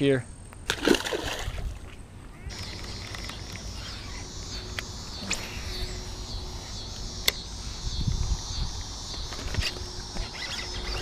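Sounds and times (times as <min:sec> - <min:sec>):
low outdoor rumble: 0:01.4 - 0:11.0
birds chirping: 0:01.5 - 0:11.0.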